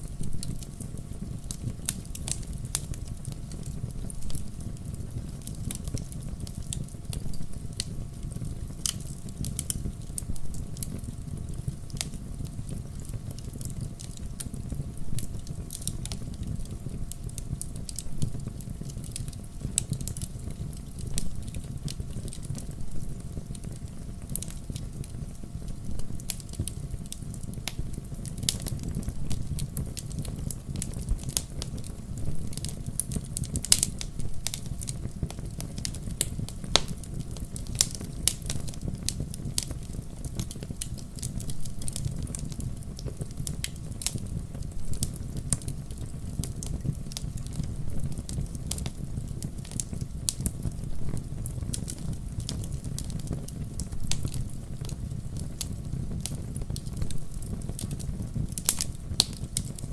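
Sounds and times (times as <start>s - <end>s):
burning logs rumbling: 0.0s - 59.9s
campfire pops and snaps: 0.2s - 59.9s.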